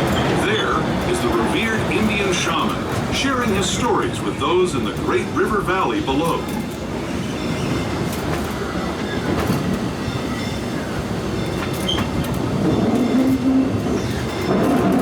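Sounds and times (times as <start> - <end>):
rail clicks and clacks: 0.0 - 15.0
train wheels rumbling on rails: 0.0 - 15.0.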